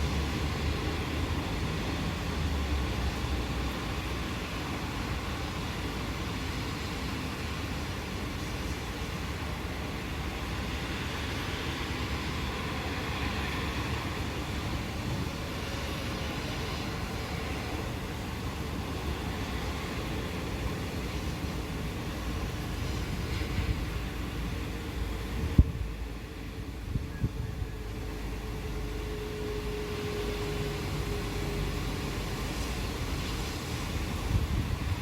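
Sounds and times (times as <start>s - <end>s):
steady rain falling: 0.0s - 26.8s, 27.7s - 35.0s.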